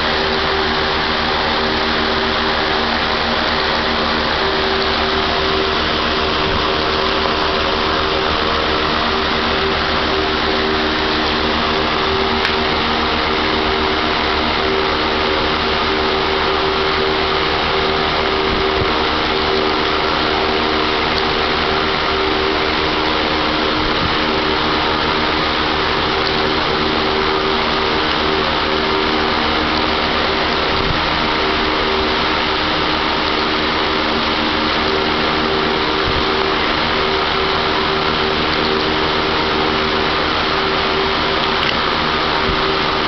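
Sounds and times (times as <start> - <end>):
fan machine whirring: 0.0 - 43.0.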